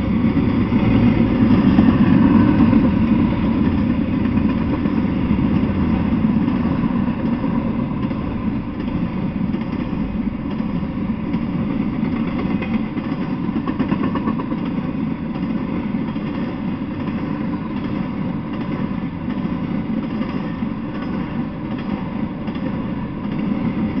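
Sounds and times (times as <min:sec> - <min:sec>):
freight train wheels rumbling on rails: 0:00.0 - 0:24.0.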